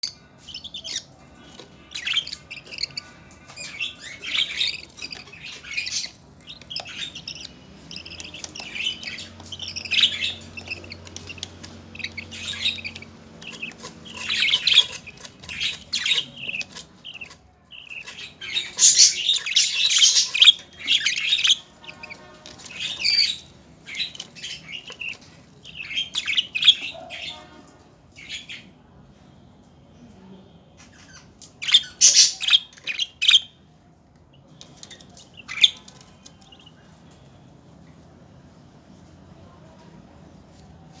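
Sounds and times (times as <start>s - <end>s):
budgerigars chirping and squawking: 0.0s - 28.8s, 30.8s - 33.6s, 34.4s - 37.2s.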